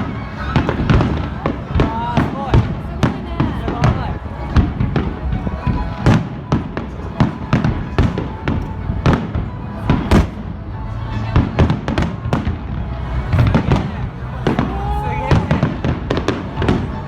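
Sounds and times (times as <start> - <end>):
fireworks bangs: 0.0 - 10.6, 11.2 - 17.0.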